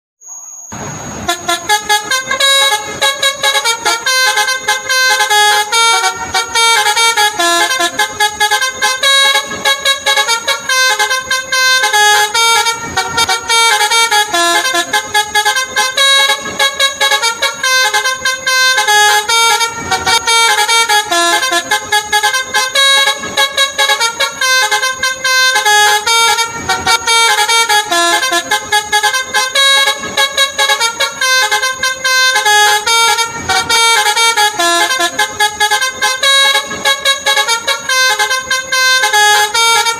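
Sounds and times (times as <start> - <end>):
scooter melody horn playing tune: 0.2 - 39.9.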